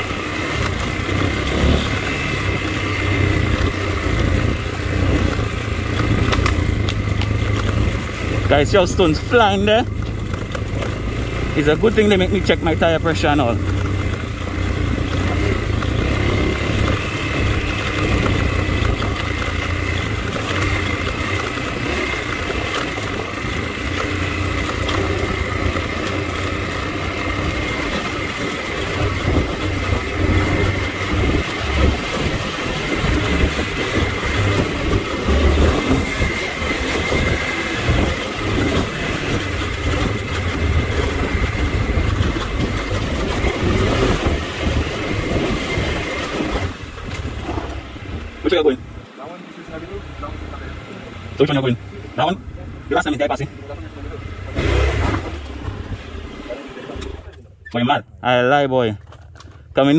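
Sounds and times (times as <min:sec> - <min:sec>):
bike jolting over rough ground: 0:00.0 - 0:49.0
dirt bike engine: 0:00.0 - 0:59.9.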